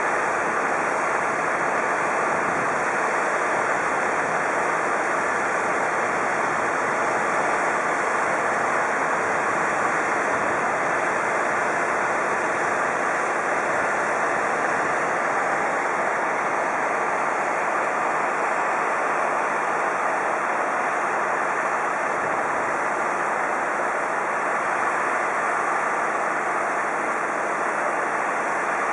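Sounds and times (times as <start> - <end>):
steady rushing noise: 0.1 - 28.9.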